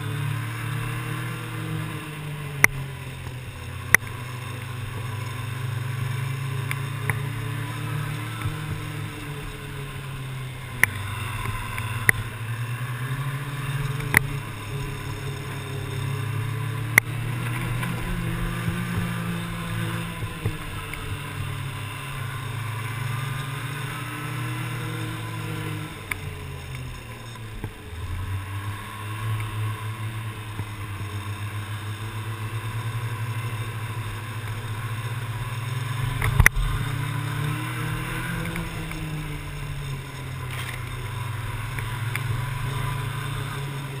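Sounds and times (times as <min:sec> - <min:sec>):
snowmobile engine running: 0:00.0 - 0:44.0.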